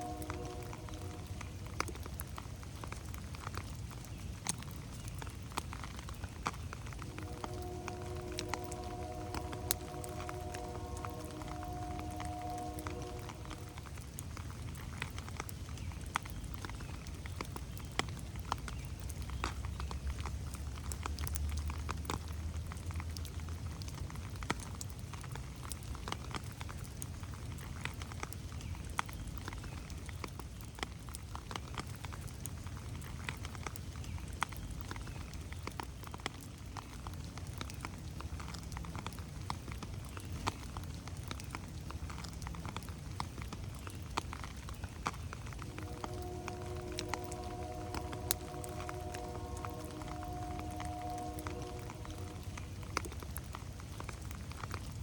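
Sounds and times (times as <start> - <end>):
rain on plants and gravel: 0.0 - 55.0.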